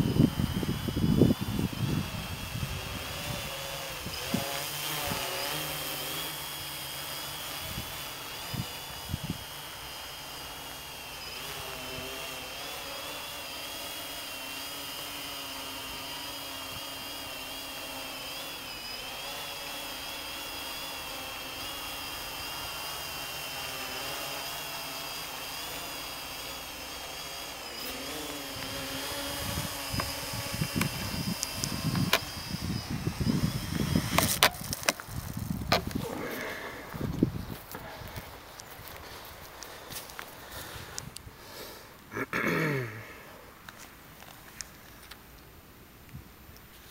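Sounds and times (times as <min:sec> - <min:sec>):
drone propellers high whine: 0:00.0 - 0:45.2.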